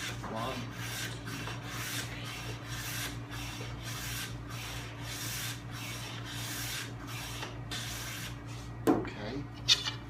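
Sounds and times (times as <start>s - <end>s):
hand plane shaving wood: 0.0s - 8.4s
steady low hum: 0.0s - 10.0s.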